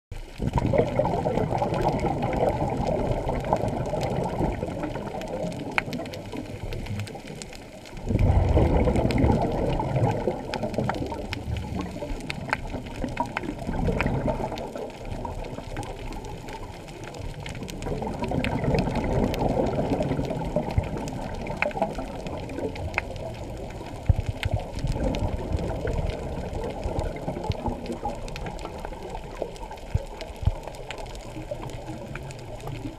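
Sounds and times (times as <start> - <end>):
underwater air bubbling: 0.1 - 32.9.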